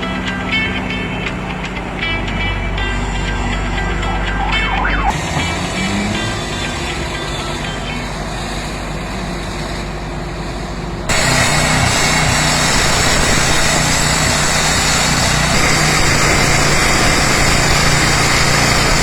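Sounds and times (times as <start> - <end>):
road repair machinery engines: 0.0 - 19.0.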